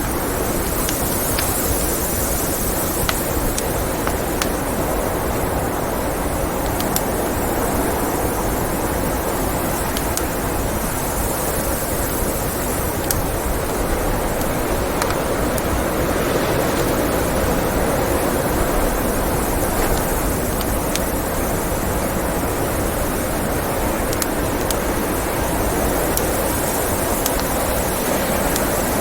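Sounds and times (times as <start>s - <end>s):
rushing blizzard wind: 0.0s - 29.0s
wood fire crackling: 0.0s - 29.0s.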